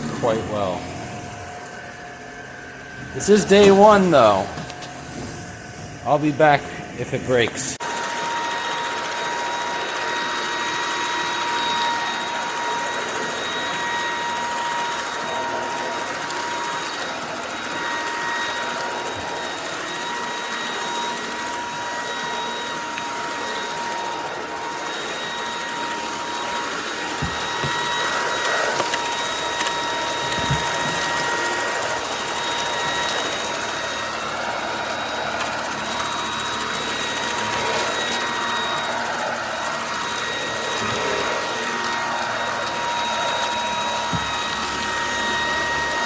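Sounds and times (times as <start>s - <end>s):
vacuum cleaner motor whine: 0.0s - 46.0s.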